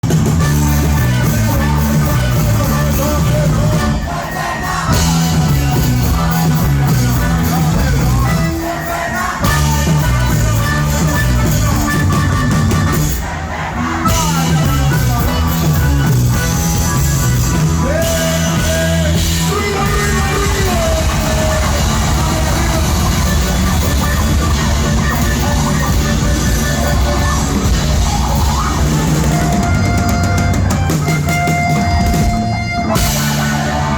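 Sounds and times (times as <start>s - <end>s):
bass guitar: 0.0s - 33.9s
drums: 0.0s - 33.9s
live band playing amplified music: 0.0s - 33.9s.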